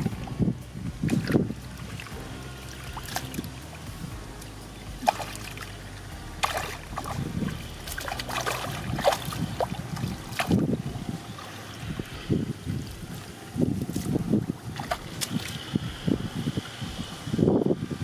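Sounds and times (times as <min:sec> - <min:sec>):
water splashing and sloshing: 0:00.0 - 0:17.4
low rumble: 0:00.0 - 0:18.0.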